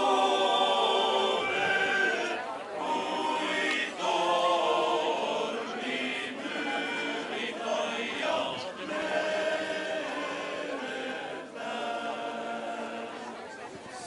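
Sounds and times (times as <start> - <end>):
men's choir singing: 0.0 - 13.4.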